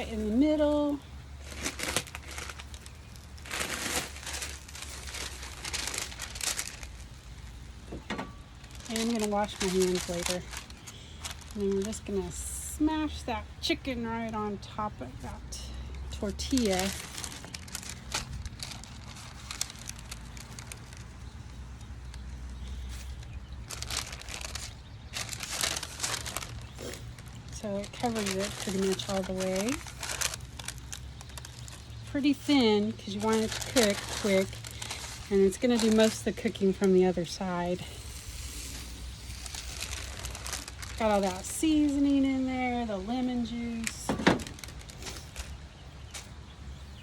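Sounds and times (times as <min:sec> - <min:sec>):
crinkling and rustling: 0:00.0 - 0:47.0.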